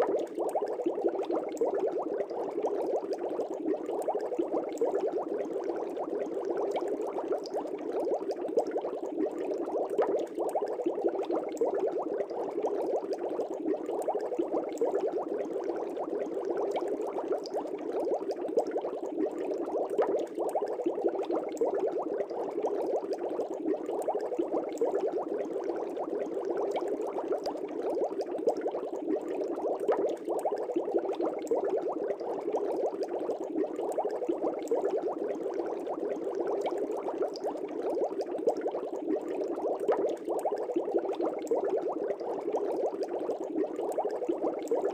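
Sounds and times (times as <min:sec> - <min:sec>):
aquarium water bubbling: 0:00.0 - 0:44.9.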